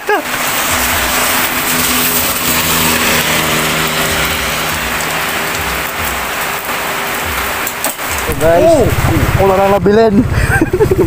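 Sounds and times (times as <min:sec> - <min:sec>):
small motorcycle engine running: 0:00.0 - 0:06.2, 0:08.3 - 0:11.0
rain falling: 0:00.0 - 0:11.0.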